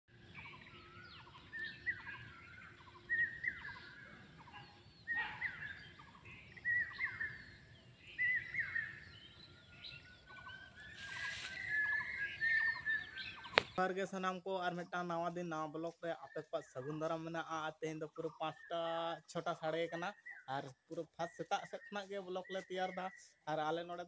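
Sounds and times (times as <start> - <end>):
songbirds chirping: 0.1 - 24.0.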